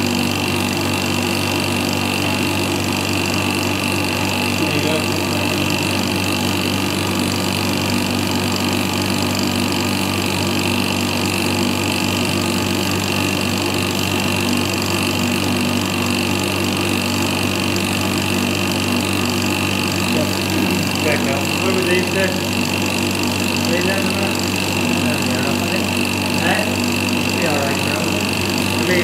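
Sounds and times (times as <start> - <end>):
injection pump humming: 0.0 - 29.0.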